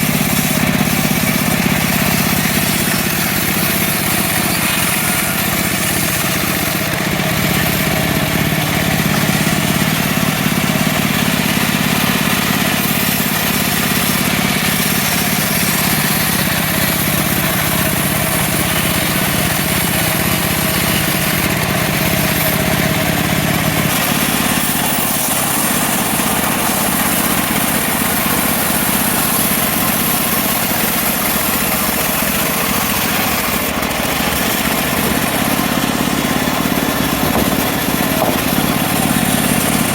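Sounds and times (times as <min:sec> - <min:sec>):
sawmill petrol engine sawing logs: 0:00.0 - 0:39.9.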